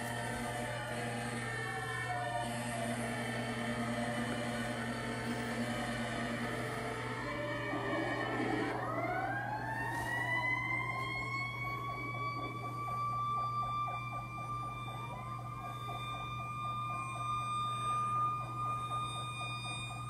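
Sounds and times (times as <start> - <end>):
low pulsing sound: 0.0 - 20.0
mechanical siren wailing: 0.0 - 20.0.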